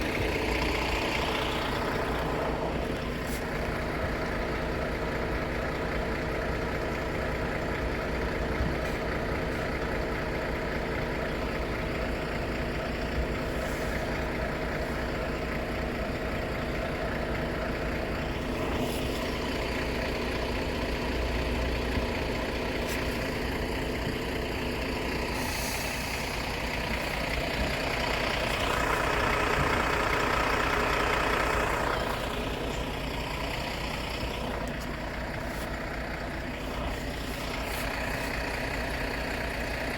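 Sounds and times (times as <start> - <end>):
vehicle engines running: 0.0 - 39.9.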